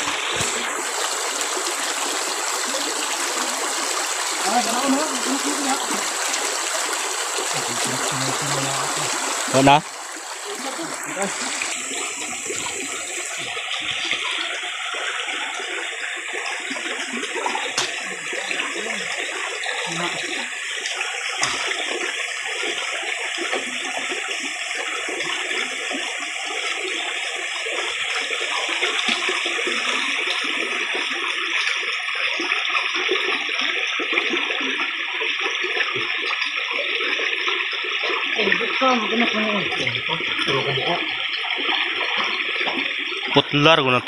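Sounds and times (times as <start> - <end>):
creek water rushing over rocks: 0.0 - 44.0.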